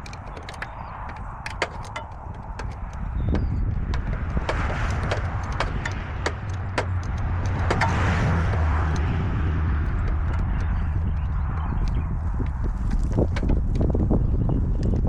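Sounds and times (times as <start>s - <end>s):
metallic clicks and knocks: 0.0s - 14.1s
excavator engine rumbling: 0.0s - 14.2s.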